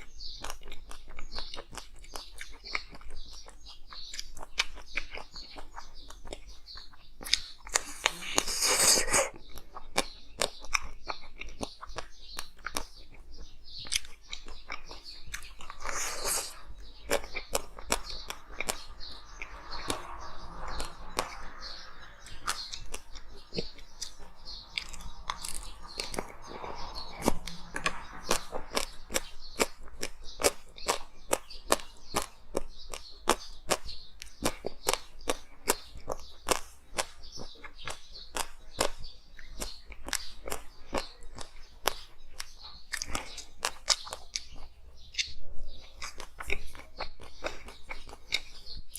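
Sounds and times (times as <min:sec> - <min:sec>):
chewing ice crunches: 0:00.0 - 0:20.0, 0:22.2 - 0:26.3, 0:27.1 - 0:48.9.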